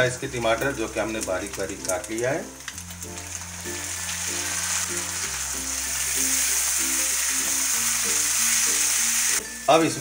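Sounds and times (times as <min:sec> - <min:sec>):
background music with low notes: 0:00.0 - 0:10.0
meat and tomatoes sizzling in a wok: 0:00.0 - 0:10.0.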